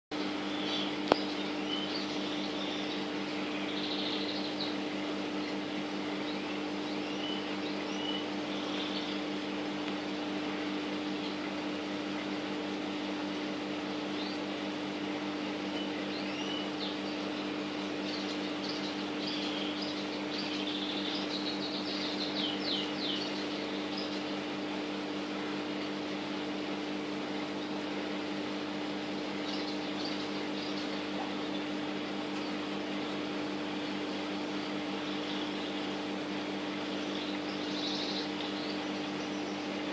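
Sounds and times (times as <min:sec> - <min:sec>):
steady mechanical hum: 0:00.1 - 0:39.9.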